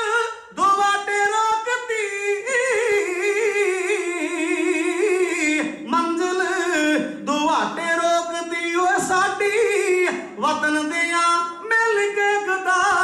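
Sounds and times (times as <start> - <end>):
man singing a ballad: 0.0 - 13.0.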